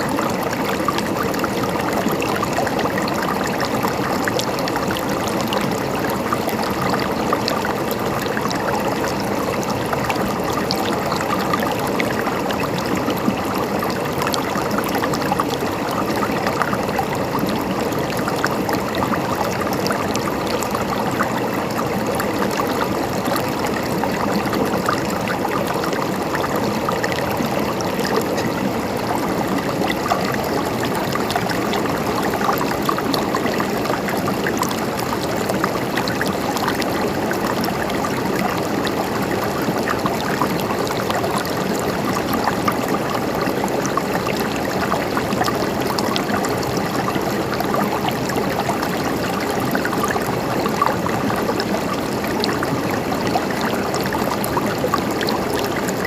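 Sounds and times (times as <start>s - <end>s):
water trickling over rocks: 0.0s - 56.0s.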